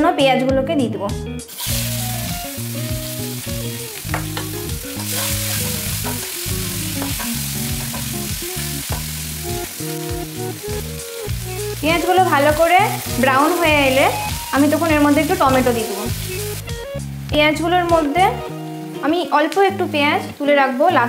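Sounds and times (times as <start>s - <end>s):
soft background music: 0.0s - 21.0s
onions sizzling in oil: 1.5s - 21.0s.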